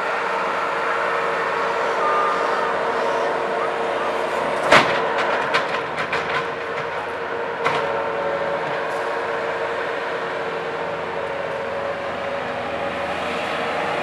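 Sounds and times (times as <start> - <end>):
skid steer loader running: 0.0 - 14.0.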